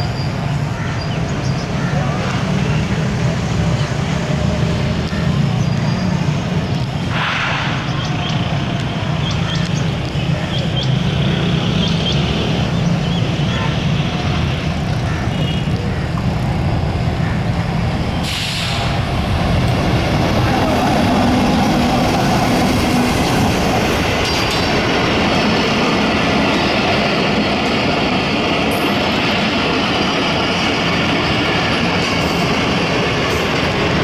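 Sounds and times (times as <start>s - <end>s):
train rumbling past on rails: 0.0s - 34.0s.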